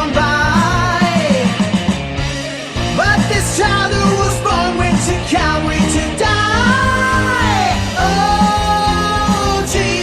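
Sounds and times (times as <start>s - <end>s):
rock band music: 0.0s - 10.0s.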